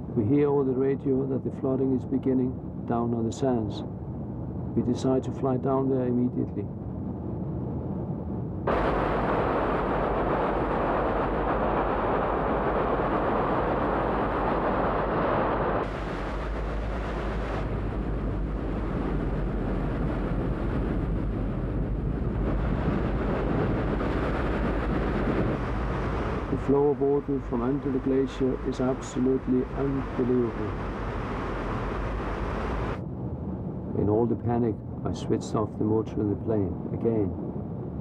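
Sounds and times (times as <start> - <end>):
aircraft engine drone in cabin: 0.0 - 38.0.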